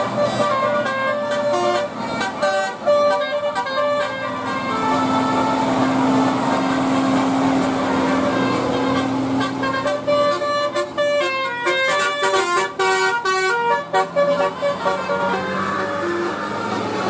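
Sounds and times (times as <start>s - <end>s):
bus engine drone: 0.0s - 17.0s
musical bus air horn: 0.0s - 17.0s.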